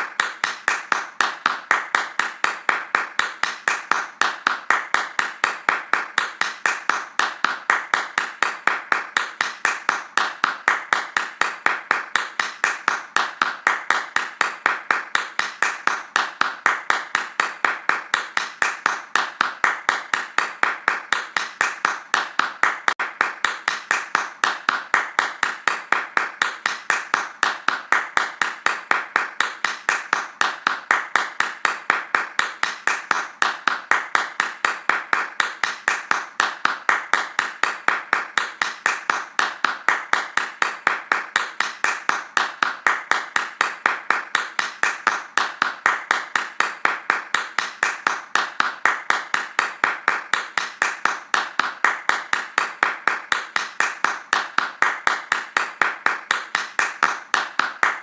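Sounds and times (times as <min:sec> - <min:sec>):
hands clapping fast: 0:00.0 - 0:58.0.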